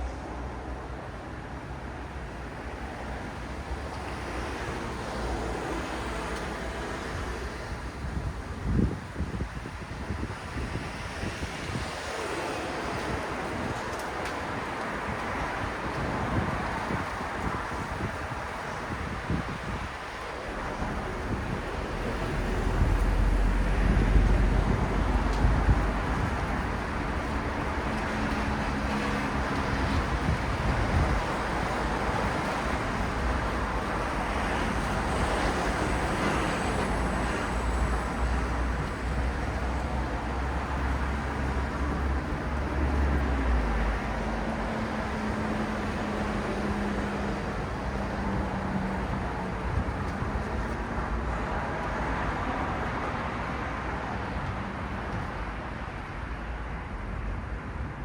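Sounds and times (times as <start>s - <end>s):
traffic tyre and engine noise: 0.0s - 58.0s.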